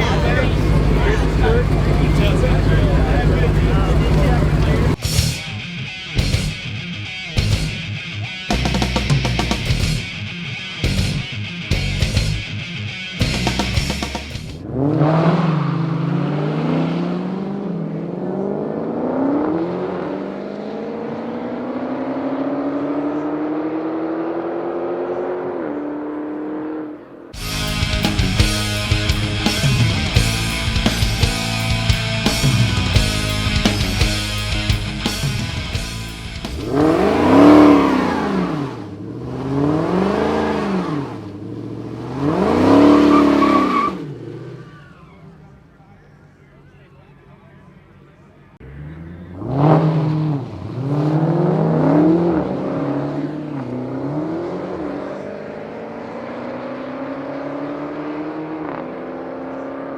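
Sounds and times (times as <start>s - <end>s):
car engine accelerating hard: 0.0s - 5.3s, 13.2s - 59.9s.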